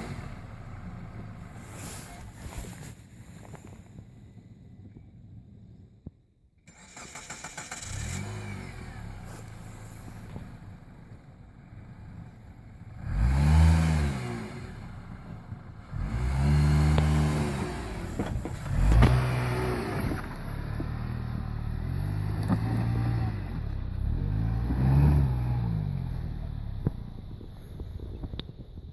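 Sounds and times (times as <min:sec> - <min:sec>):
car engine revving: 0:00.0 - 0:02.5, 0:06.7 - 0:28.5.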